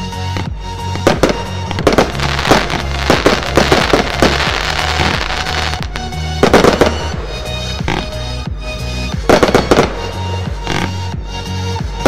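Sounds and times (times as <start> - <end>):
fireworks crackling: 0.0 - 8.4, 9.2 - 11.2
background music with bass: 0.0 - 12.0
fireworks bursts: 0.3 - 8.5, 9.1 - 11.2.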